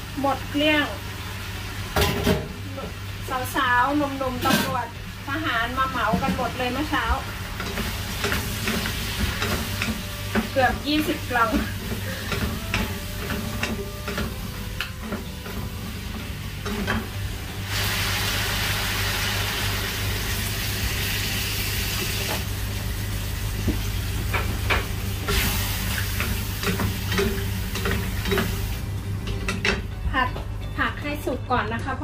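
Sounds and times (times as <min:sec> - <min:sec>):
water sizzling in hot pan: 0:00.0 - 0:29.2
vegetables stir-frying in a pan: 0:00.0 - 0:29.9.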